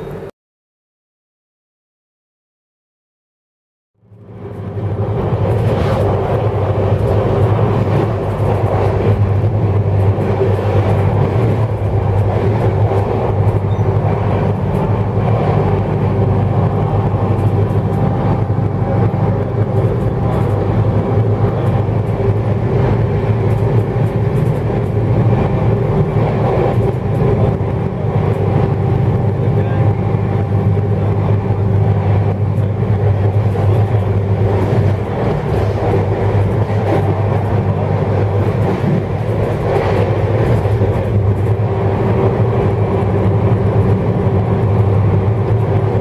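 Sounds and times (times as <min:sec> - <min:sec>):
train running hum and rumble: 0:00.0 - 0:00.3, 0:04.0 - 0:46.0.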